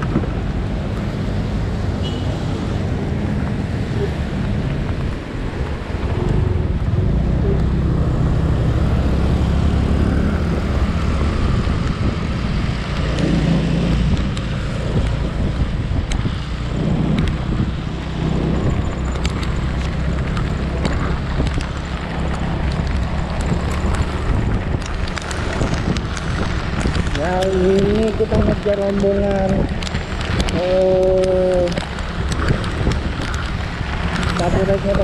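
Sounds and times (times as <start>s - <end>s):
wind noise on microphone: 0.0s - 35.0s.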